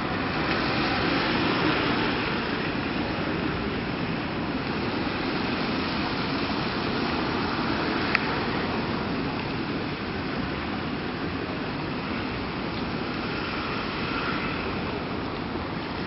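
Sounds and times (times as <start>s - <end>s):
city street noise: 0.0s - 16.0s
traffic hum: 0.0s - 16.0s.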